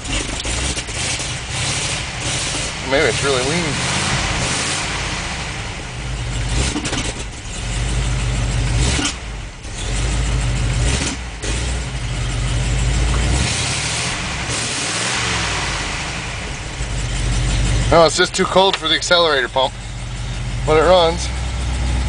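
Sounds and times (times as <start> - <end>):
car engine revving unevenly: 0.0 - 22.0.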